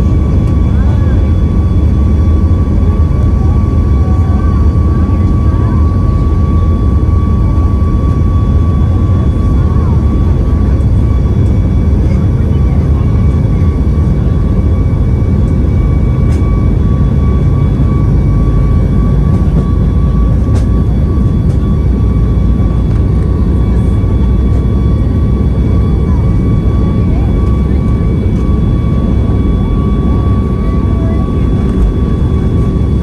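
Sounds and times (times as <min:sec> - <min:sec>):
jet engine cabin rumble: 0:00.0 - 0:33.0
thin engine whine: 0:00.0 - 0:33.0.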